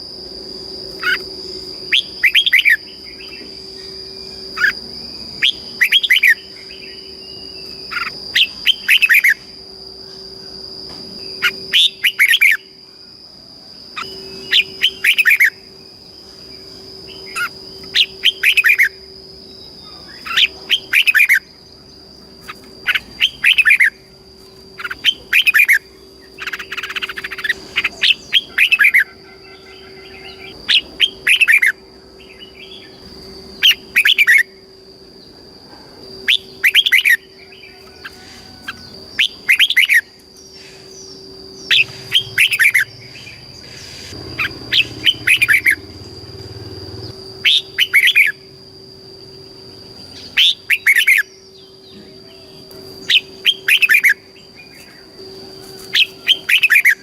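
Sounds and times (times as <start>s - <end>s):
steady high whine: 0.0s - 57.0s.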